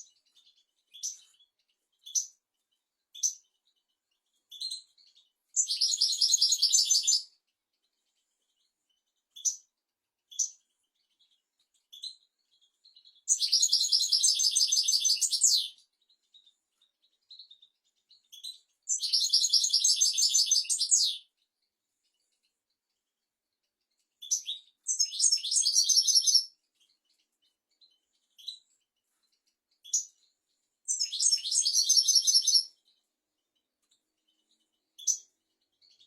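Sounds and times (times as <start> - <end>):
bird twittering song: 0.0 - 36.0.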